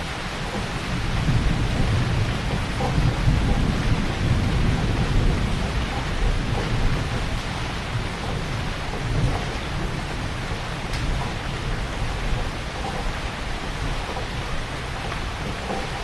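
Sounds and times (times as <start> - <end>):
heavy rain falling: 0.0 - 16.0
low rumble of thunder: 0.0 - 16.0.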